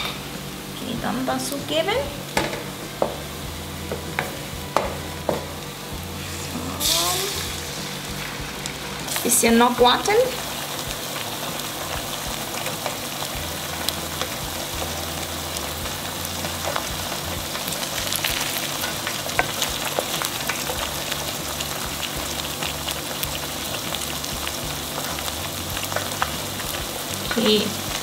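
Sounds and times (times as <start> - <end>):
eggs sizzling in a pan: 0.0 - 28.0.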